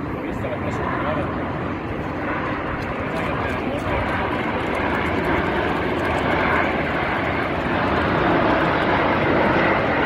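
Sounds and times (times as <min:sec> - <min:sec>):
jet aircraft flying past: 0:00.0 - 0:10.0.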